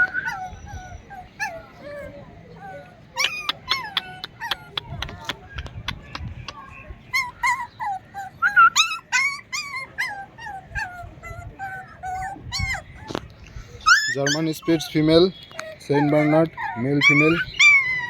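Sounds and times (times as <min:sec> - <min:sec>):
puppies whining and yelping: 0:00.0 - 0:05.6, 0:07.0 - 0:18.0.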